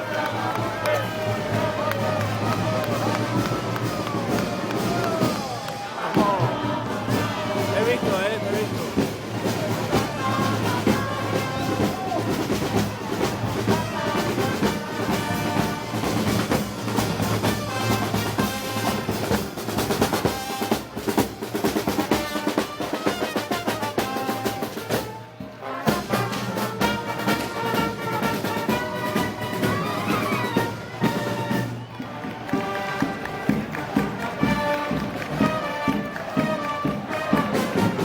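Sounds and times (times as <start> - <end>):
brass band playing: 0.0 - 38.0
snare drum rolls: 0.1 - 38.0.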